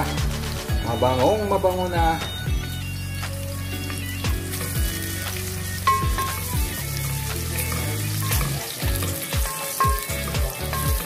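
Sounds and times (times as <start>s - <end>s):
bass-heavy music beat: 0.0s - 11.0s
onions sizzling in oil: 0.0s - 11.0s.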